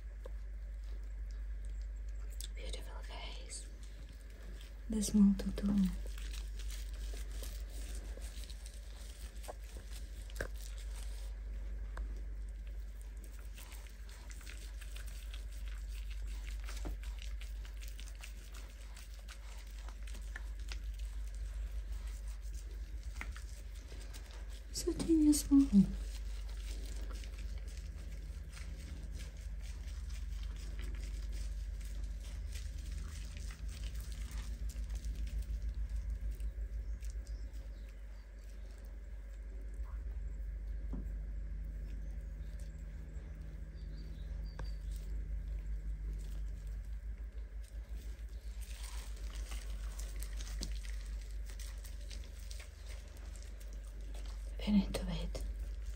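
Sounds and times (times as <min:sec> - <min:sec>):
steady low hum: 0:00.0 - 0:55.9
wet fur squelching: 0:03.7 - 0:39.5, 0:43.6 - 0:55.9.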